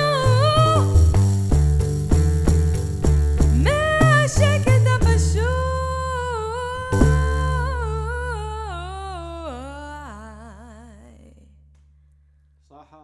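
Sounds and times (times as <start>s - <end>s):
plucked bass lute notes: 0.0s - 11.8s.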